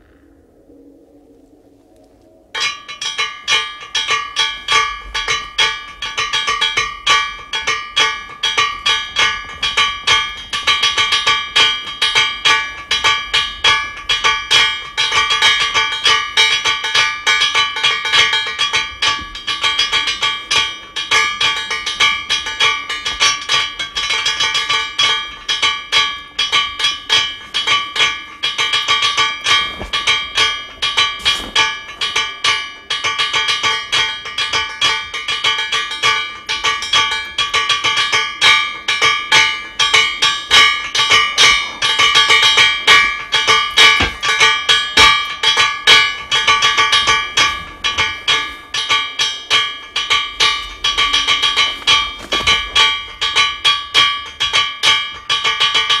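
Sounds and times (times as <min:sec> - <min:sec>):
struck metal clanging: 0:02.6 - 0:56.0.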